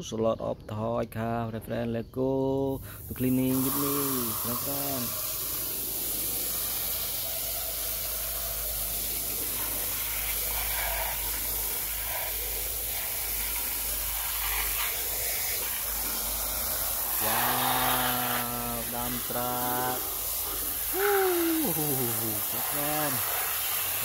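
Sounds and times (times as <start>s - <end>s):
hose water spraying: 2.7s - 24.0s.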